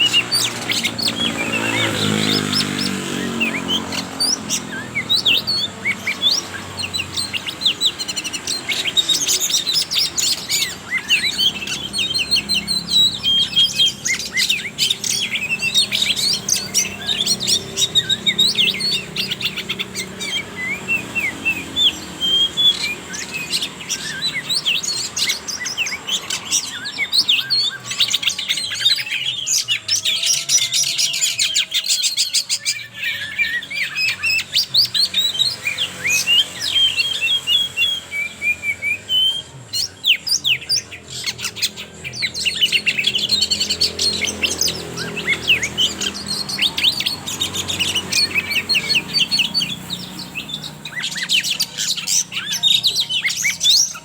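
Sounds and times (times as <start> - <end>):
bird singing chirps and trills: 0.0 - 54.0.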